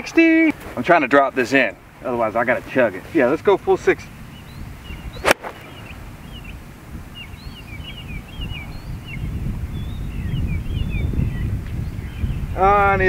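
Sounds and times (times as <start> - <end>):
low wind rumble: 0.8 - 13.0
small birds chirping: 0.9 - 13.0.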